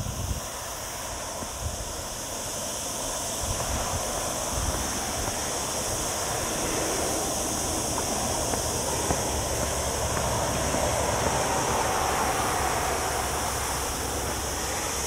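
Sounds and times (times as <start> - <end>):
cicadas droning: 0.0 - 15.0
distant road traffic hiss: 0.0 - 15.0
wind rumble on microphone: 0.0 - 15.0.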